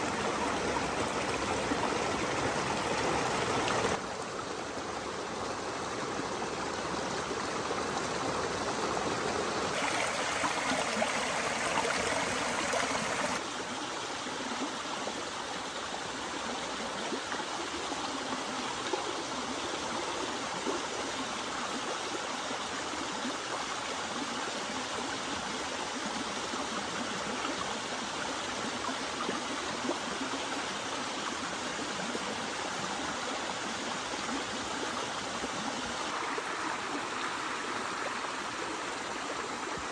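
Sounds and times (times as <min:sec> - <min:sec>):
stream splashing over rocks: 0:00.0 - 0:21.8, 0:28.6 - 0:39.9.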